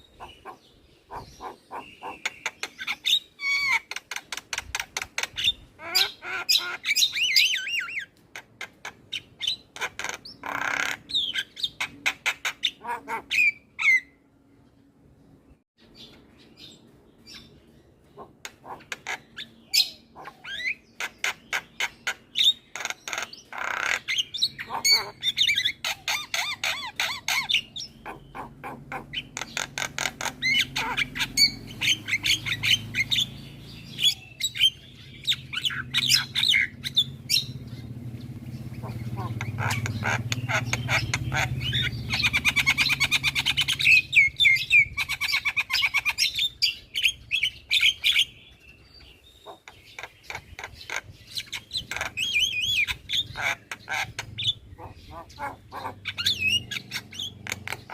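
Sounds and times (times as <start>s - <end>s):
myna bird chattering: 0.0s - 14.1s, 15.9s - 57.9s.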